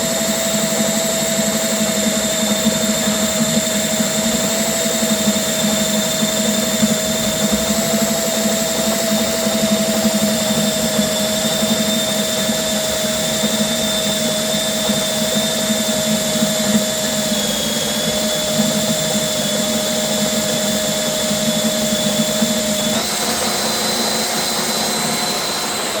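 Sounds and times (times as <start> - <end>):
drain cleaning machine whining: 0.0 - 26.0.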